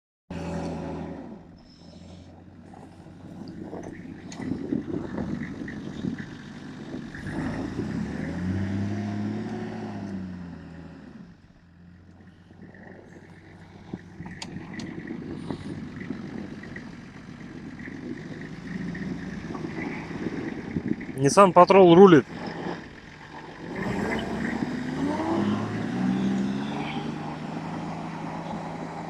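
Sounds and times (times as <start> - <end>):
engine running under load: 0.3 - 29.0.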